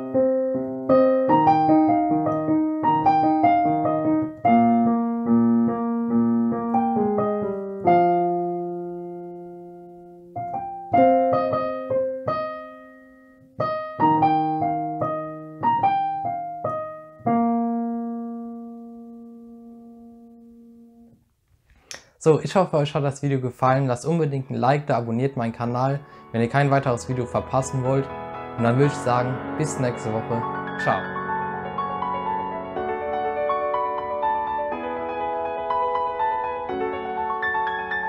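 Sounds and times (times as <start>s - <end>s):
slow piano piece: 0.0s - 21.2s, 24.3s - 38.0s.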